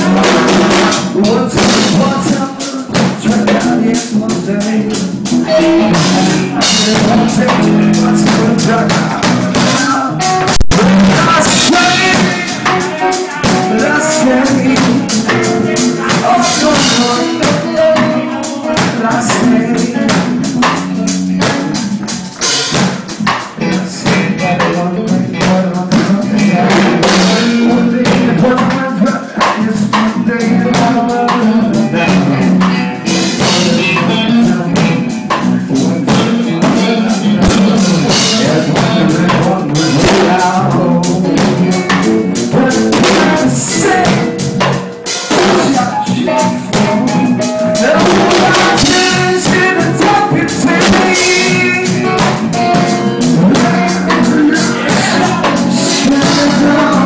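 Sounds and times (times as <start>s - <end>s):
drum kit beat: 0.0s - 57.0s
guitar: 0.0s - 57.0s
person singing: 0.0s - 57.0s.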